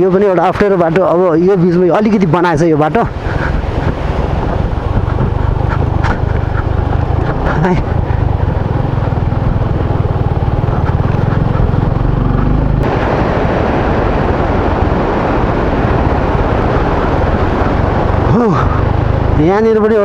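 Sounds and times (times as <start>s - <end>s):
motorcycle engine running: 0.0s - 20.0s
loud rushing noise: 3.0s - 19.5s.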